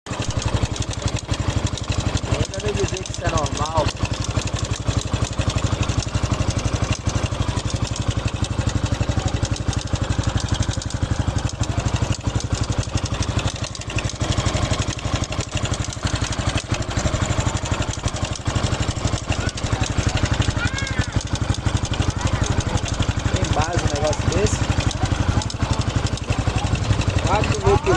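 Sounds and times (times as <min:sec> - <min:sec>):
motorcycle engine idling: 0:00.1 - 0:27.9.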